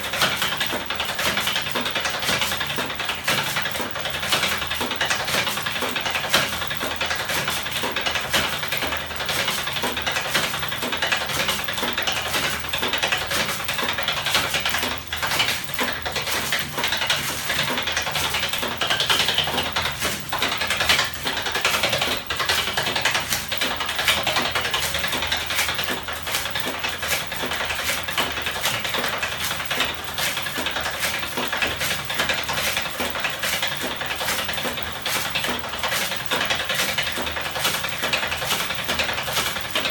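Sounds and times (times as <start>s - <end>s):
mechanical clatter of rapid clicks: 0.0s - 39.9s.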